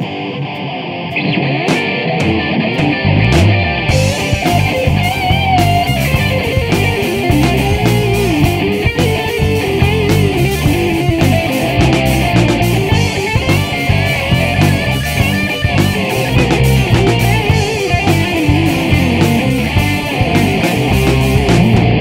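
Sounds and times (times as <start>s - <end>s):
bass guitar: 0.0s - 22.0s
electric guitar: 0.0s - 22.0s
drum kit beat: 1.7s - 22.0s.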